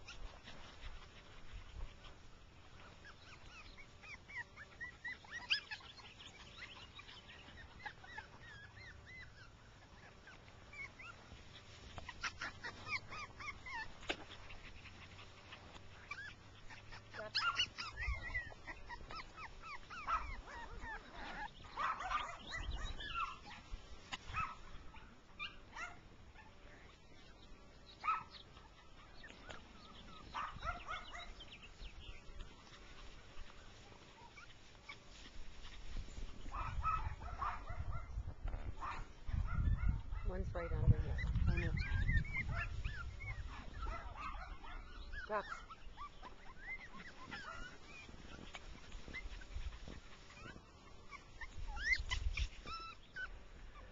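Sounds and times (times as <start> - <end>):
puppies yipping and whimpering: 0.0 - 53.9.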